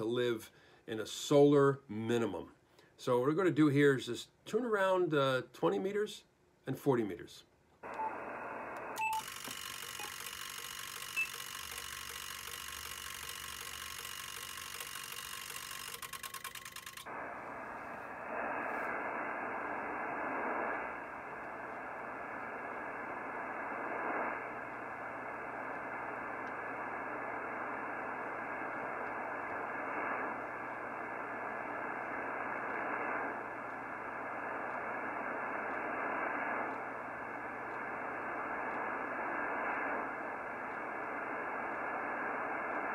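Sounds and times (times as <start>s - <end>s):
shortwave radio static hiss: 7.8s - 42.9s.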